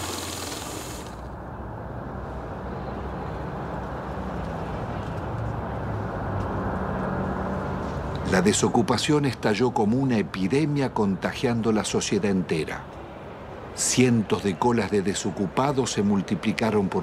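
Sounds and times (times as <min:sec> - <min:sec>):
muffled traffic rumble: 0:00.1 - 0:17.0.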